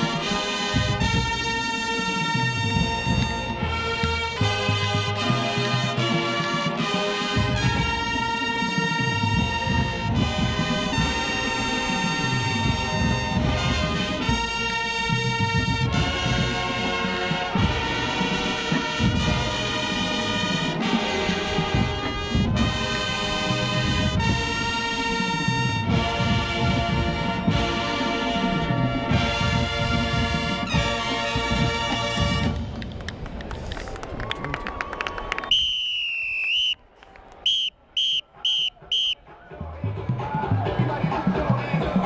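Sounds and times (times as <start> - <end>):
marching band playing: 0.0 - 32.8, 37.5 - 42.0.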